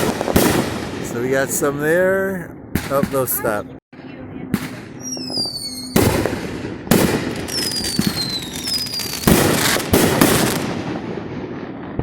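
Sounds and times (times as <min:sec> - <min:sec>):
fireworks bangs: 0:00.0 - 0:03.6, 0:04.5 - 0:12.0.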